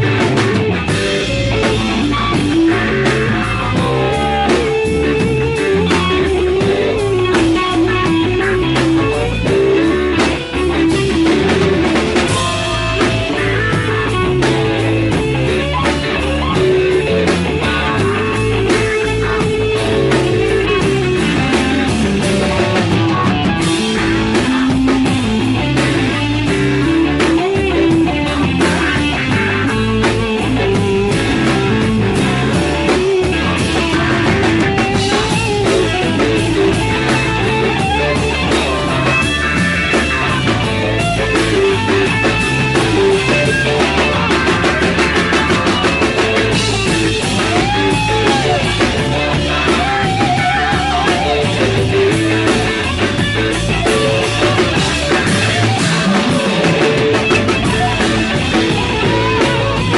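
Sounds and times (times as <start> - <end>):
bass line: 0.0 - 59.9
drums: 0.0 - 59.9
electric guitar lead: 0.0 - 59.9.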